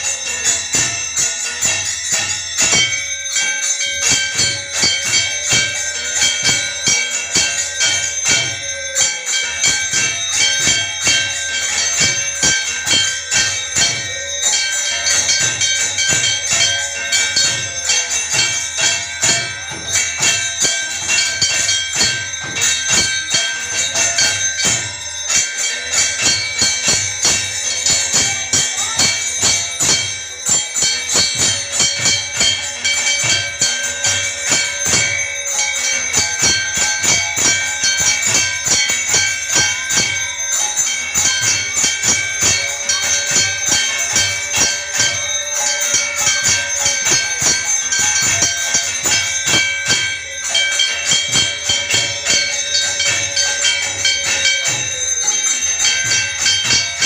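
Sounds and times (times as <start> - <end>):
clanging percussion strikes: 0.0 - 57.0
temple bells ringing: 0.0 - 57.0.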